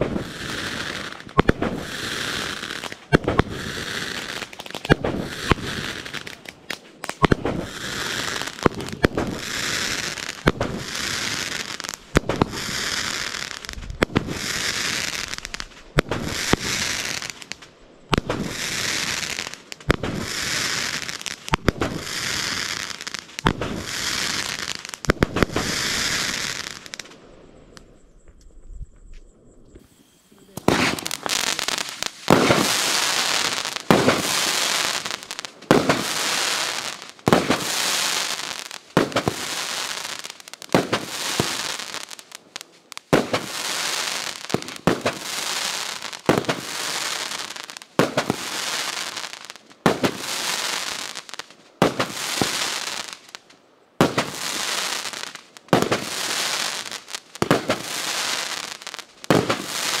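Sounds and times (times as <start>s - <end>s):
firework bangs: 0.0s - 27.3s, 29.8s - 60.0s
firework crackling: 0.0s - 27.9s, 29.8s - 60.0s.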